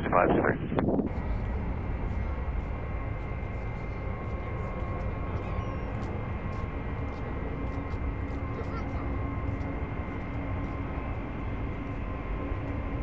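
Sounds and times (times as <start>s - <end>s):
jet airliner engine noise: 0.0s - 13.0s.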